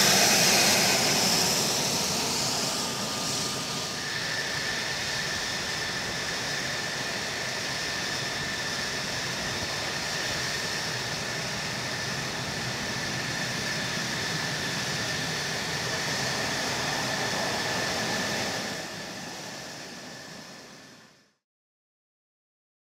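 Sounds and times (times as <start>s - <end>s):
jet engine roar with whine: 0.0s - 21.4s.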